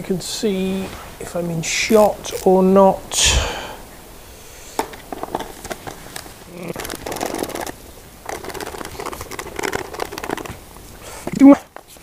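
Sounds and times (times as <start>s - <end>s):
gloved hands rustling: 0.6s - 3.6s, 4.3s - 12.0s.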